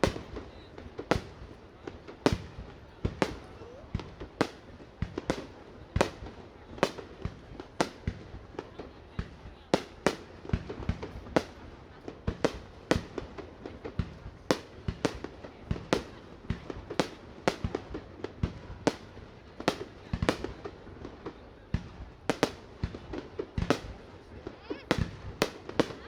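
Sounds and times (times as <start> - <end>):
fireworks bangs and cracks: 0.0 - 26.0.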